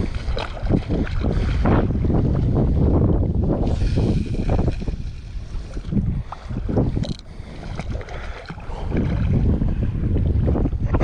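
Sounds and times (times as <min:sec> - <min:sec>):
small waves lapping: 0:00.0 - 0:11.0
wind gusting over microphone: 0:00.0 - 0:11.0.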